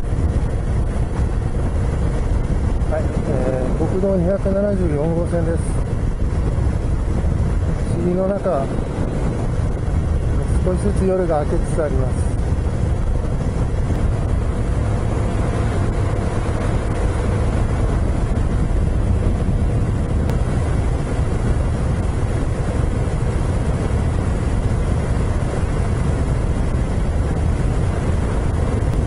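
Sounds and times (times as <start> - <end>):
motorcycle engine cruising: 0.0 - 29.0
wind and road noise: 0.0 - 29.0.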